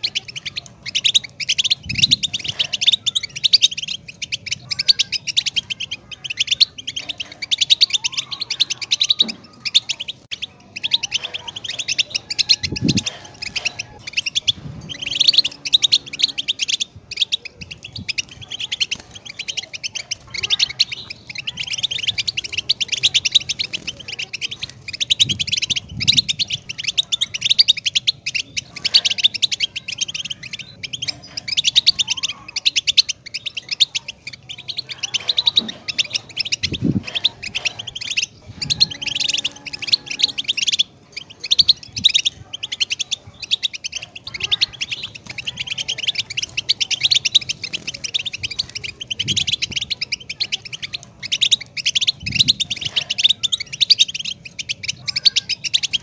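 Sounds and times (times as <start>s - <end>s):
goldfinch twittering song: 0.0s - 56.0s.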